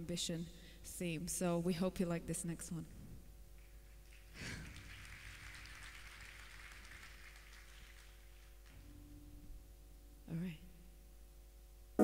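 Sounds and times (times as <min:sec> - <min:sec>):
faint sound system hum: 0:00.0 - 0:12.0.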